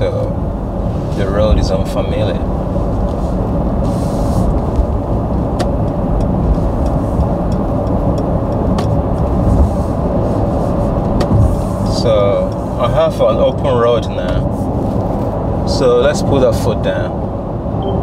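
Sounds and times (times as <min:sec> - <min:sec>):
road and wind noise in car: 0:00.0 - 0:18.0.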